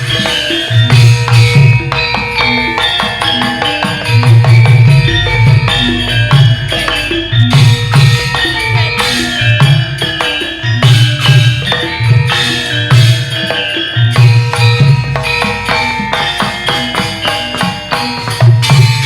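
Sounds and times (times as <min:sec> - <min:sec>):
hand drum beat: 0:00.0 - 0:19.0
pitched struck percussion notes: 0:00.0 - 0:19.0.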